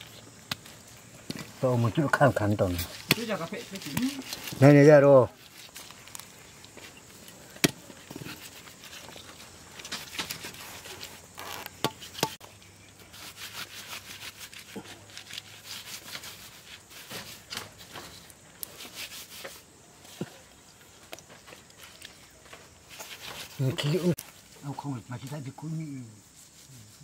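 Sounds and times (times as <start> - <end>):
hands scratching dry earth: 0.0 - 20.4, 21.2 - 24.4, 25.9 - 27.0.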